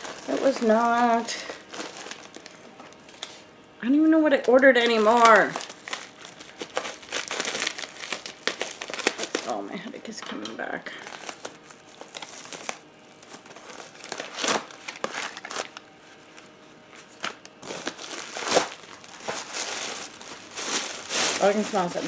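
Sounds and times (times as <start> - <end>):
packaging crinkling and rustling: 0.0 - 3.5, 4.3 - 9.6, 11.0 - 22.0.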